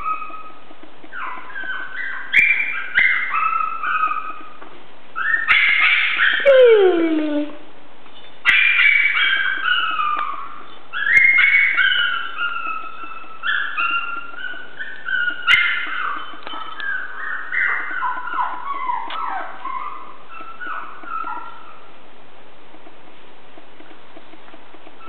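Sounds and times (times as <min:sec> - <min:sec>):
puppies whimpering and yipping: 0:00.0 - 0:04.6, 0:05.2 - 0:07.6, 0:08.4 - 0:21.9.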